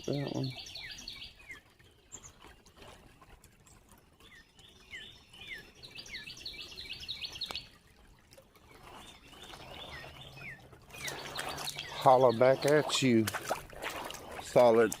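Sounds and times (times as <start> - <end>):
songbird singing: 0.0 - 2.5, 3.7 - 7.9, 8.5 - 15.0
creek water trickling: 0.0 - 15.0.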